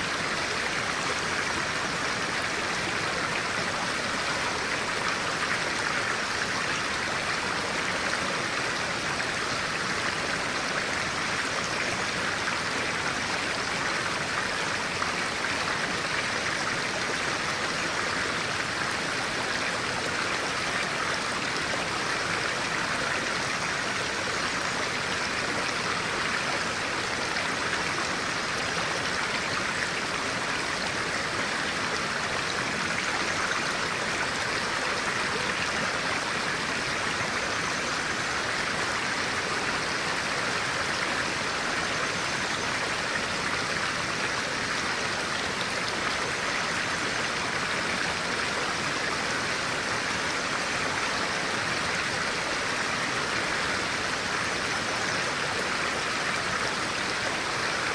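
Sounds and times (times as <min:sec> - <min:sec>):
stream water running over rocks: 0:00.0 - 0:57.9.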